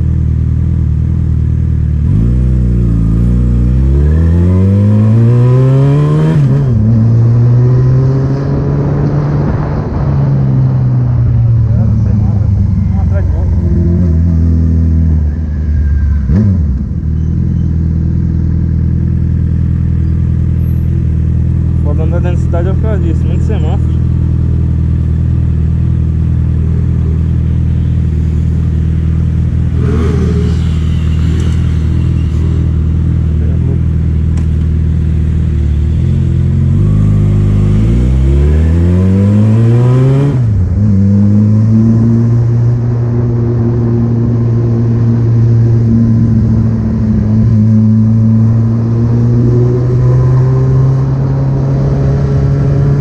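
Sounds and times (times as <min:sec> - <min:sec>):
vehicle engine revving: 0:01.0 - 0:15.6, 0:16.2 - 0:53.0.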